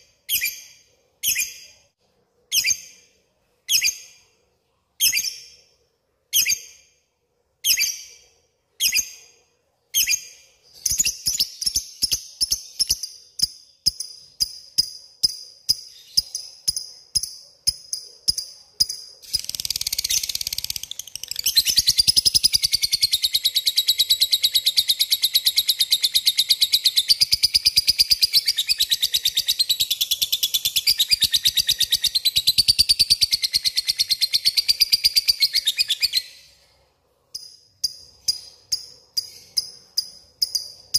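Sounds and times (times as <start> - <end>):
bird chirping and trilling: 0.0 - 1.9, 2.5 - 4.3, 7.6 - 9.4, 10.0 - 36.6, 37.4 - 40.9.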